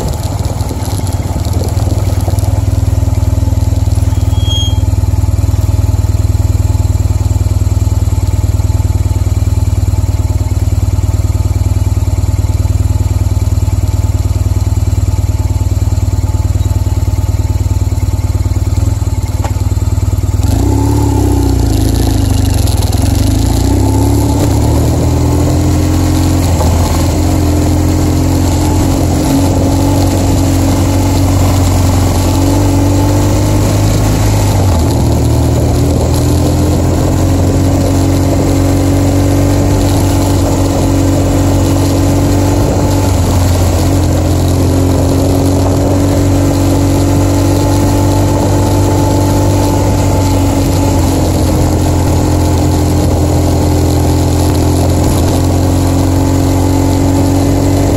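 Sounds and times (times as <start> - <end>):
motorcycle engine idling and pulling away: 0.0 - 57.9.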